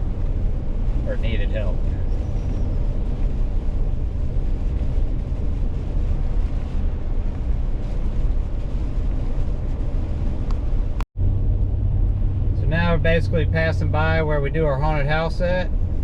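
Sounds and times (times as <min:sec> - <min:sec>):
car engine rumble from inside: 0:00.0 - 0:16.0
tyre noise on snowy road: 0:00.0 - 0:16.0.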